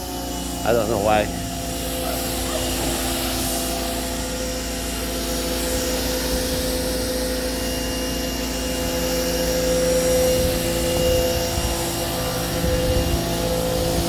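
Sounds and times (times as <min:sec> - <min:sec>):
pressure washer whining: 0:00.0 - 0:14.0.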